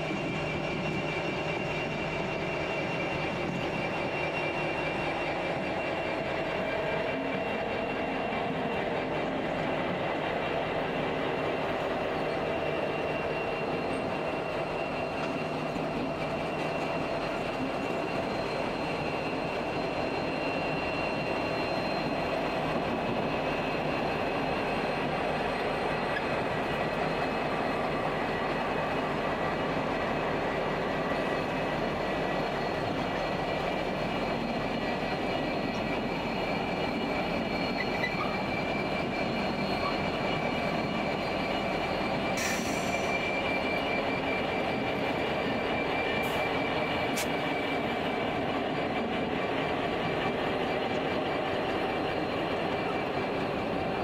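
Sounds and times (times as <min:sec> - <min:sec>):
diesel locomotives rolling past: 0:00.0 - 0:54.0.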